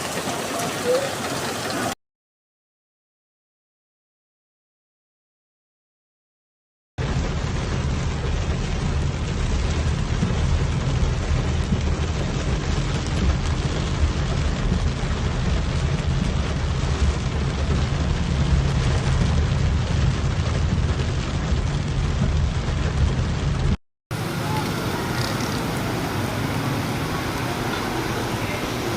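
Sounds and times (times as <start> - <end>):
heavy rain pouring: 0.0 - 2.0, 7.0 - 28.9.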